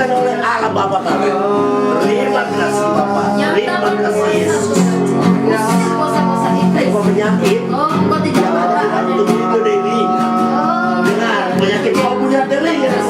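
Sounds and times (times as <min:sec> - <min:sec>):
guitar music with held notes: 0:00.0 - 0:13.0.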